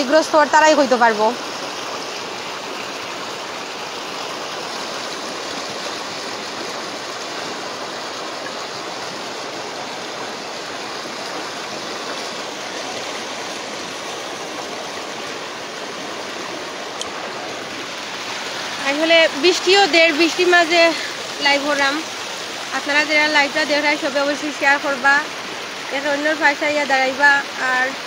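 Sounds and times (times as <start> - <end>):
floodwater roaring: 0.0 - 28.0.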